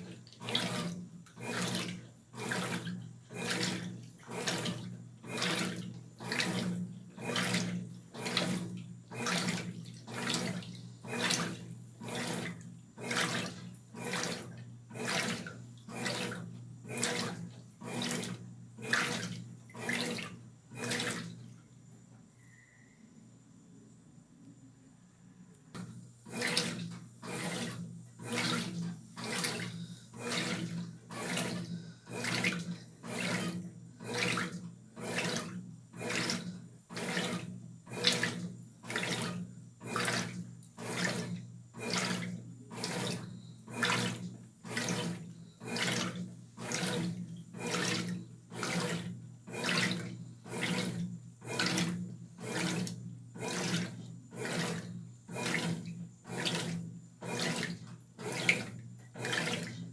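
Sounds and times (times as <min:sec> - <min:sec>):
washing machine motor hum: 0:00.0 - 0:21.6, 0:25.7 - 0:59.9
water swishing in washing machine: 0:00.0 - 0:21.6, 0:25.7 - 0:59.9.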